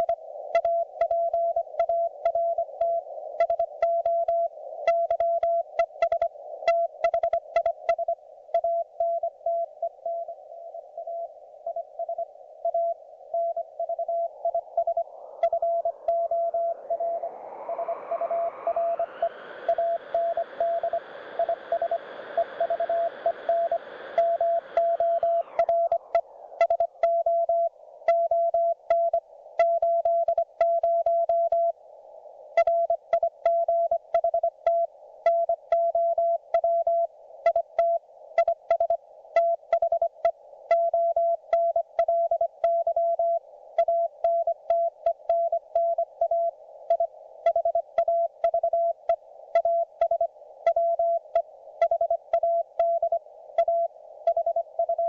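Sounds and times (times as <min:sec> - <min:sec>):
receiver hiss: 0:00.0 - 0:55.0.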